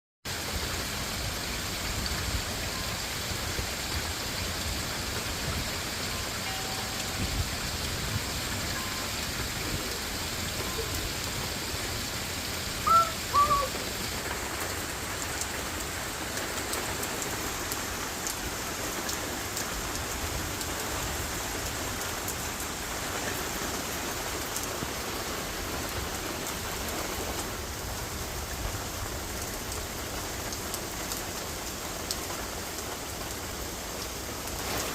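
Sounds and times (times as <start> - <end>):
rain and hail falling: 0.3 - 34.9.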